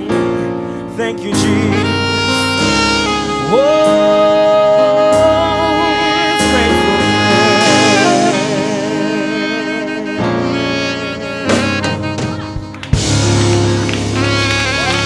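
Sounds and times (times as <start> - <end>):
church worship music: 0.0 - 15.0.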